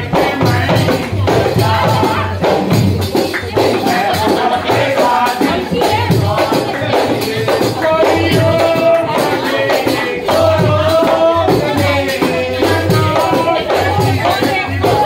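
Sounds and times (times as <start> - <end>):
hand drum beating: 0.0 - 15.0
tambourine jingling: 0.0 - 15.0
woman singing: 0.0 - 15.0.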